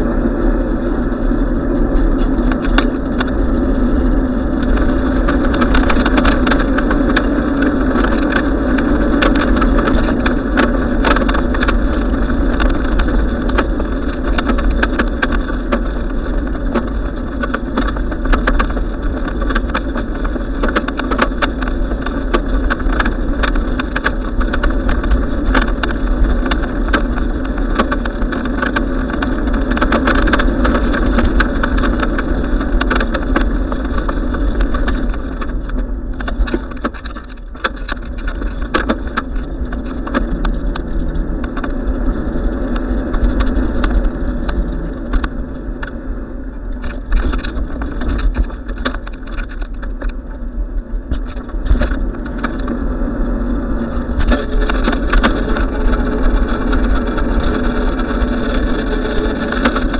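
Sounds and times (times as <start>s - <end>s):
bicycle riding rumble: 0.0s - 59.9s
wind on microphone: 0.0s - 59.9s
bike rattles and knocks: 1.6s - 59.9s.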